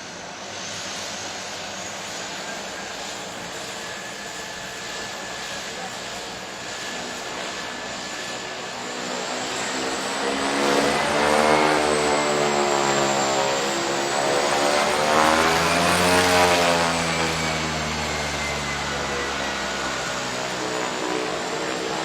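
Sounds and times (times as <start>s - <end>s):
propeller aircraft passing: 0.0s - 22.0s.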